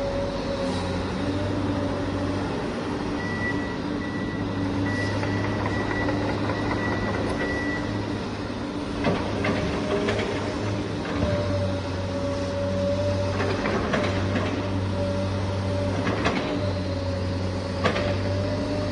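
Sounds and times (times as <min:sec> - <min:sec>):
electric motors and hydraulic pump whine: 0:00.0 - 0:18.9.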